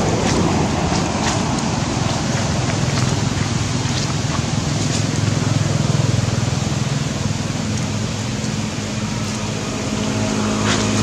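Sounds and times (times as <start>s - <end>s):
continuous hiss: 0.0s - 11.0s
vehicle engine running: 0.0s - 11.0s.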